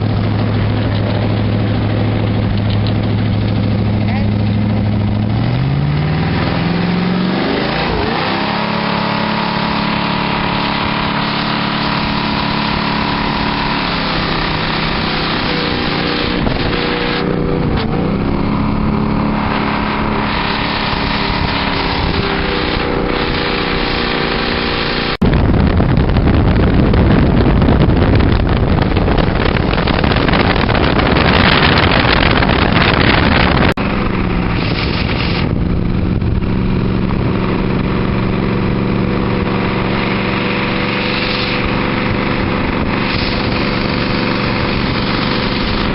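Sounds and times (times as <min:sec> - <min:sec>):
motorboat engine: 0:00.0 - 0:45.9.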